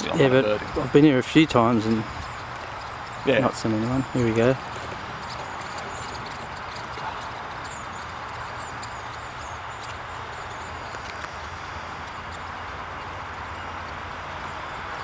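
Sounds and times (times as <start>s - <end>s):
background hiss: 0.0s - 15.0s
high calls of small birds: 0.0s - 15.0s.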